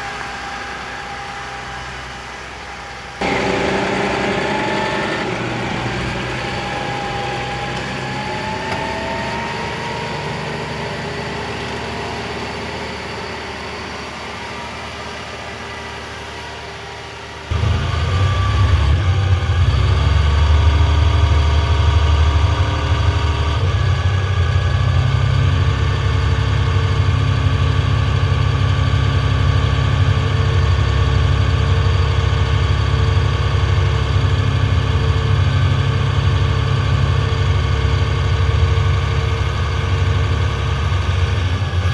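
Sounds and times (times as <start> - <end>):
deep steady engine note: 0.0 - 41.9
tractor diesel engine working: 0.0 - 41.9.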